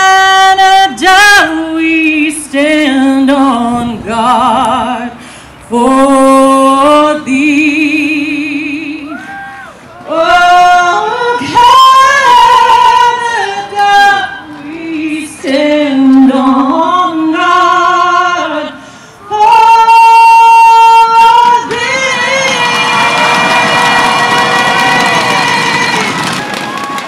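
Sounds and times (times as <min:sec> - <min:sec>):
woman singing anthem: 0:00.0 - 0:09.3, 0:10.0 - 0:26.1.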